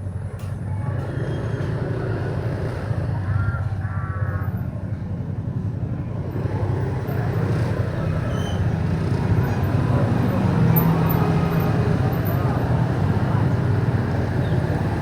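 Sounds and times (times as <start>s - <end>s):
motorbike engine drone: 0.8s - 15.0s.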